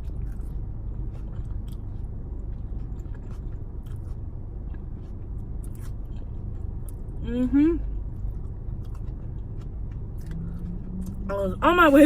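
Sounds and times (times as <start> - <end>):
chewing pizza: 0.0 - 12.0.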